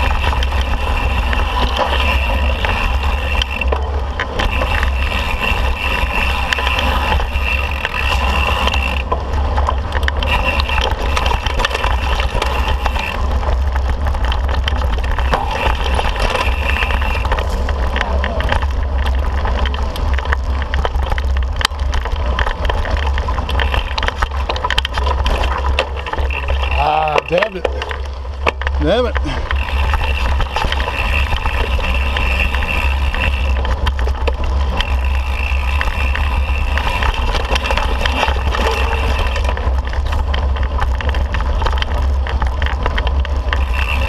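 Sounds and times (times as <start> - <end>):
bicycle freehub buzzing: 0.0 - 44.0
bike rattling and knocking: 0.0 - 44.0
bike tyres rumbling on dirt: 0.0 - 44.0.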